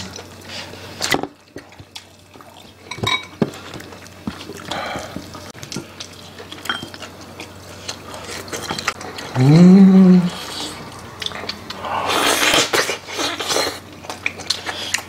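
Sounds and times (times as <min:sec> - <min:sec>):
wet eating sounds: 0:00.0 - 0:15.0.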